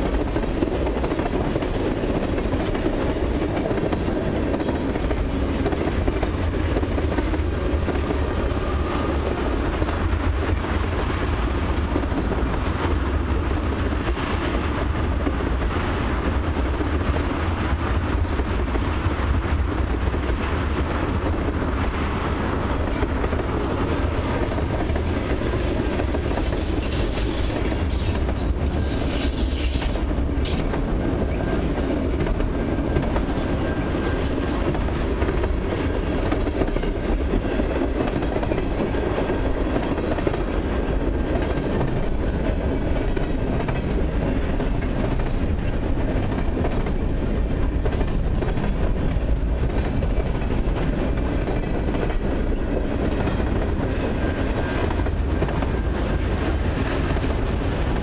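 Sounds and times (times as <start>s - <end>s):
train wheels running on rails: 0.0s - 58.0s.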